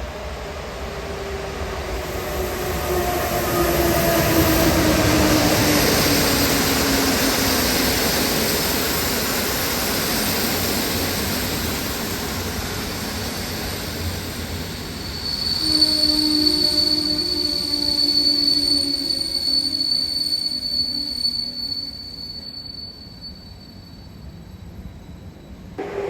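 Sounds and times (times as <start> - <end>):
electric locomotive whine: 0.0 - 26.0
train wheels rushing on rail: 0.0 - 26.0.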